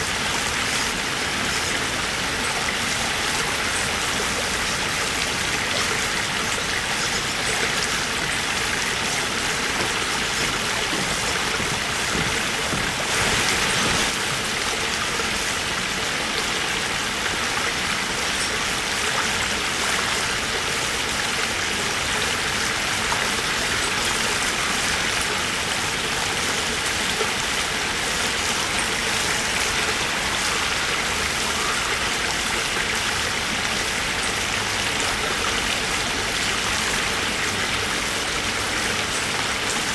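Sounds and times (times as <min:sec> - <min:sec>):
stream flowing over gravel: 0:00.0 - 0:39.9.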